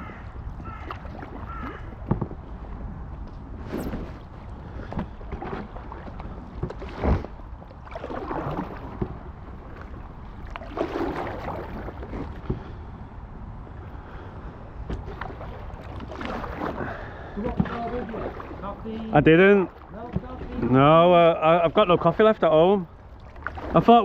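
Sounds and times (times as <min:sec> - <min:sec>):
paddle strokes splashing: 0:00.0 - 0:13.0, 0:14.0 - 0:24.0
wind rumble on microphone: 0:00.0 - 0:24.0.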